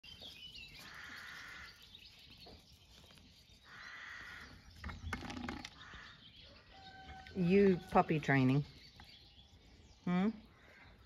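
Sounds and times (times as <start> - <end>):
birds calling and chattering: 0.0 - 11.0.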